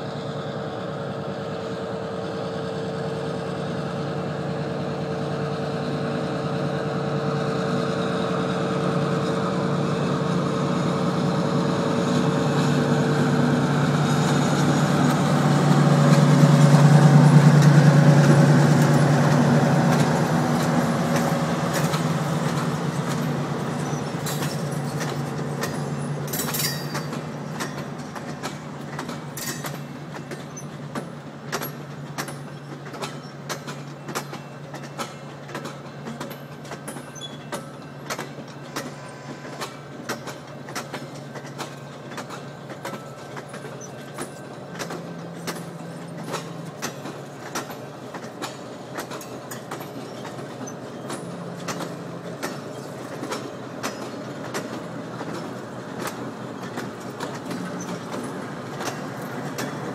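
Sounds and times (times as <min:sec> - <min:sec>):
diesel locomotive engine: 0:00.0 - 0:59.9
train wheels clicking on rail joints: 0:00.6 - 0:59.9.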